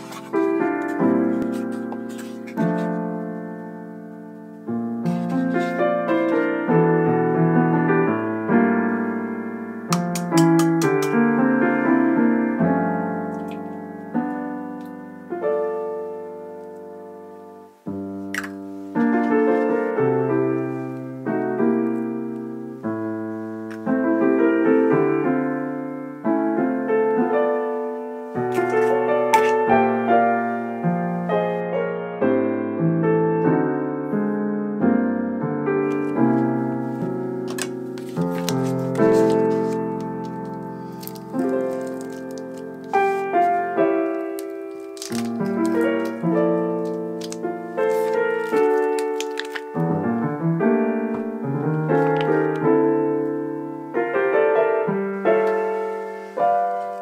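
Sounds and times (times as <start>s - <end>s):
slow piano music: 0.0s - 57.0s.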